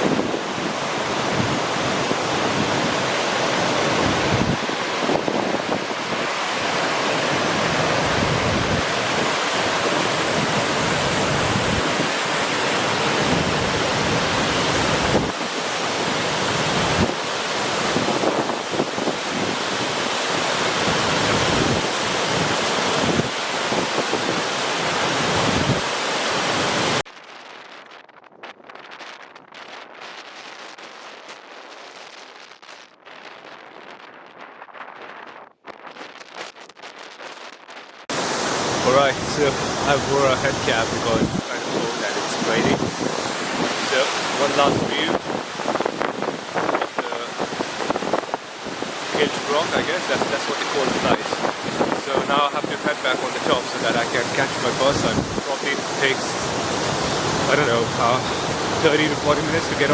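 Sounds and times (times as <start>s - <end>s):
waterfall rushing: 0.0s - 27.0s, 38.1s - 59.9s
wind on microphone: 0.0s - 59.9s.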